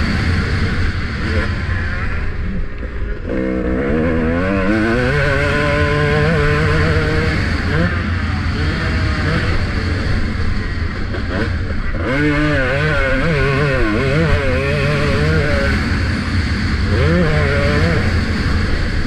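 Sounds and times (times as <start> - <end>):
motocross bike engine revving: 0.0 - 19.0
wind rumble on microphone: 0.0 - 19.0.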